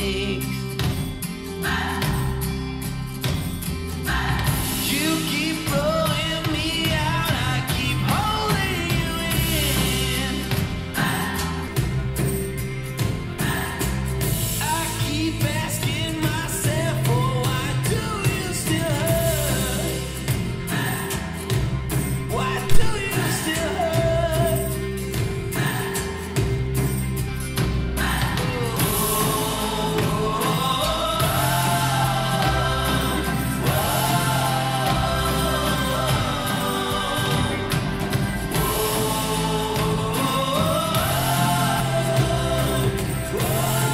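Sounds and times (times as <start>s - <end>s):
rock song over loudspeakers: 0.0s - 43.9s.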